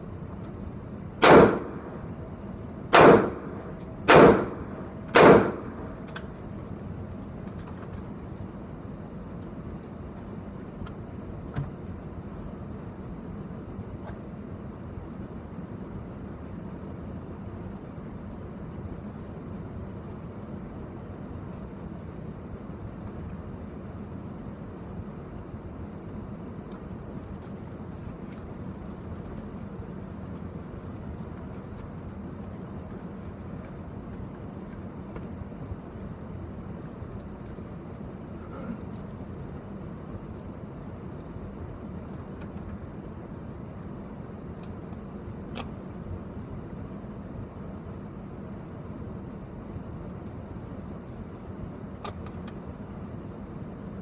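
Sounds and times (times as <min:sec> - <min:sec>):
ventilation rumble: 0:00.0 - 0:54.0.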